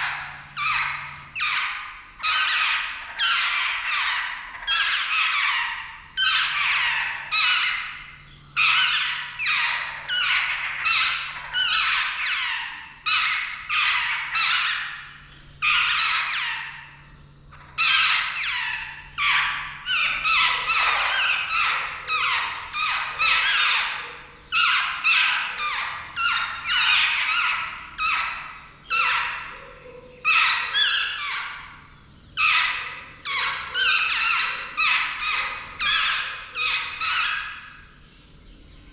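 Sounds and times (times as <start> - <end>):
birds harsh squeaky calls: 0.0 - 38.2.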